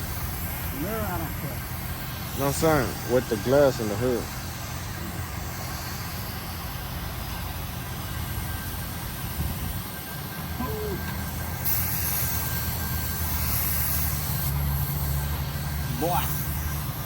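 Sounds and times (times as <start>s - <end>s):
rushing air hiss: 0.0s - 17.0s.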